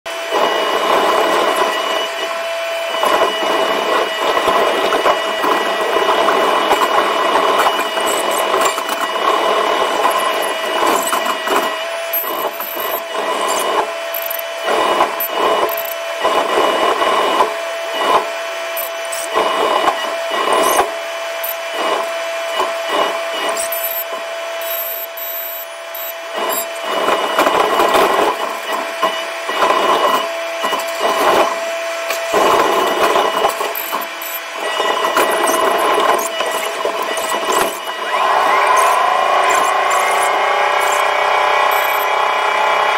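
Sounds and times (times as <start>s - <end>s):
steady mechanical whine: 0.1s - 42.9s.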